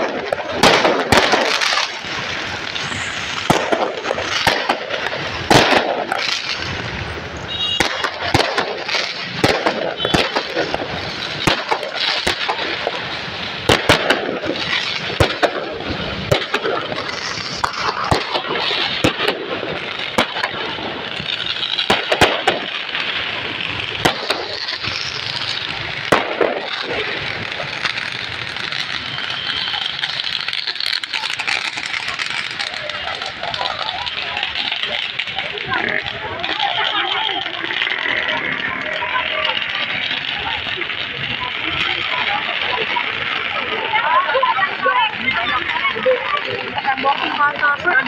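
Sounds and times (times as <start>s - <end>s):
crackling hiss of fountains: 0.0s - 48.0s
firework bangs and cracks: 0.0s - 48.0s.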